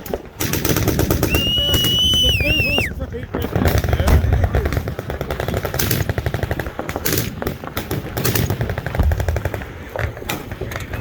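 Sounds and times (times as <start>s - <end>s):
machine guns firing: 0.3s - 2.7s, 3.3s - 10.8s.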